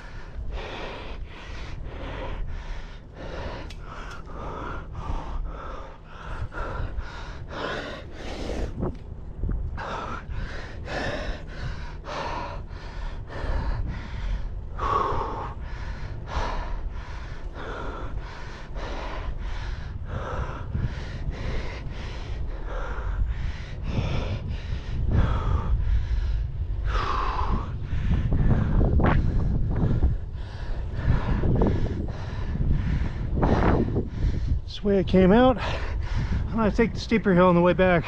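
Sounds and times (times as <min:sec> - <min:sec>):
cyclist panting hard: 0:00.0 - 0:38.0
wind rumble on microphone: 0:00.0 - 0:38.0.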